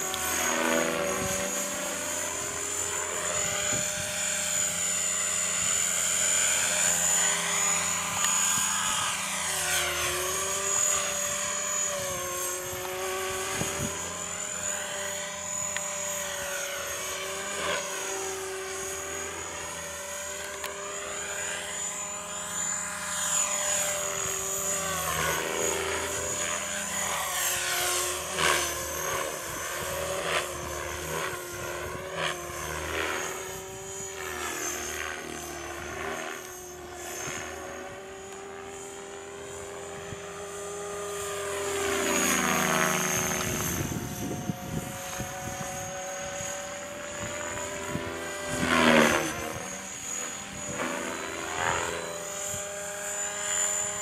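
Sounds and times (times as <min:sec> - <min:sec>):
model helicopter motor whine: 0:00.0 - 0:54.0.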